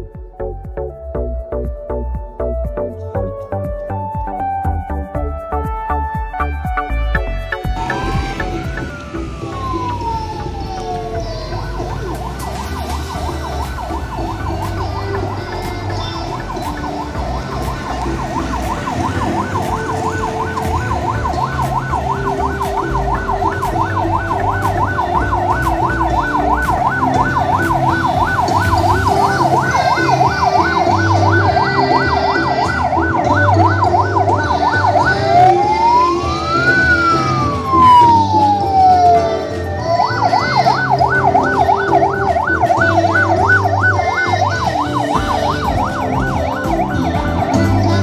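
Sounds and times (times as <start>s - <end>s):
police siren: 0.0s - 48.0s
motorcycle engines rumbling: 6.8s - 48.0s.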